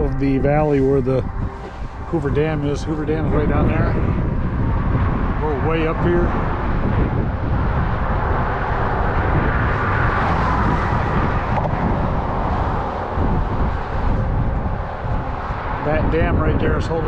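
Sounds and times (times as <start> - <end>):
traffic rumble: 0.0 - 17.0
vehicle passing: 0.0 - 17.0.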